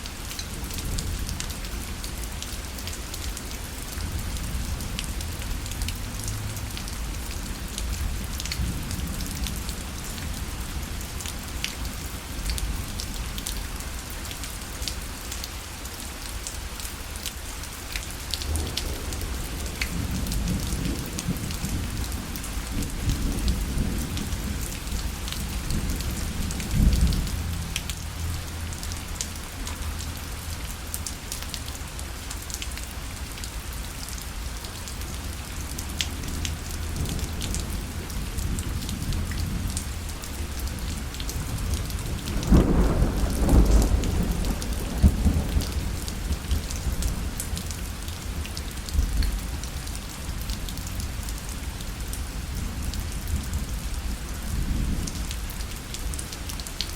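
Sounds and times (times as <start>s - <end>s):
rain pattering on a parasol: 0.0s - 56.9s.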